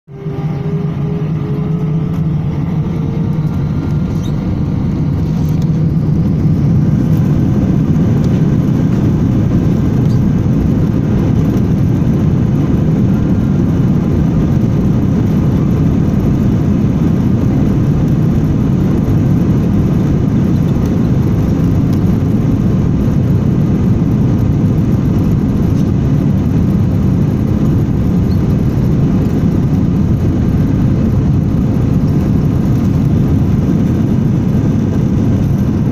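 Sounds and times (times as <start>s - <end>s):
jet engines spooling up: 0.1s - 35.9s.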